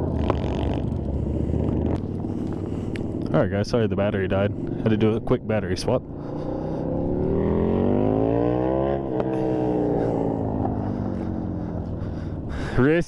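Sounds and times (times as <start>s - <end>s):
vehicle engine revving: 0.0s - 3.3s, 4.5s - 12.6s.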